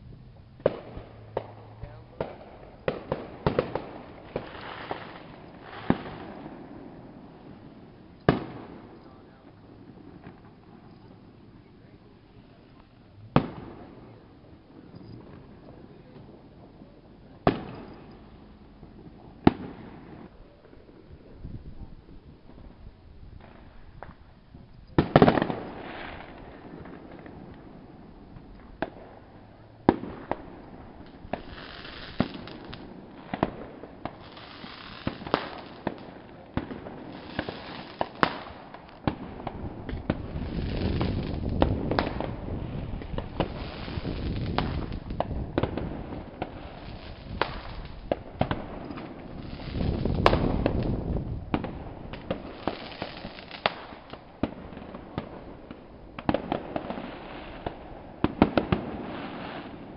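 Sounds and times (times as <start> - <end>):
firework bangs: 0.0 - 59.9
rumble and hiss: 0.0 - 59.9.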